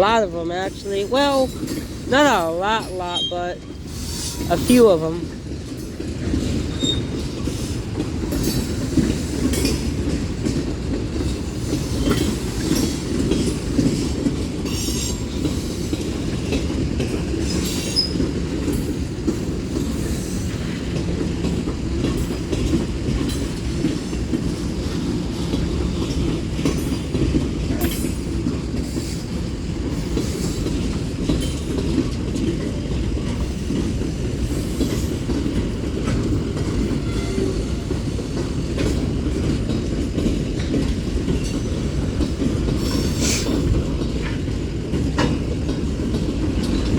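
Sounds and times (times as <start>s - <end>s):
rail clicks: 0.0s - 46.9s
steel wheels rumbling on rails: 0.0s - 46.9s.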